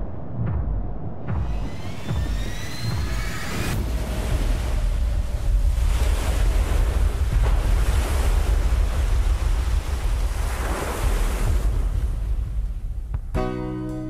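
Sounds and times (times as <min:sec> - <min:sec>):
ocean wave breaking: 0:01.7 - 0:13.1.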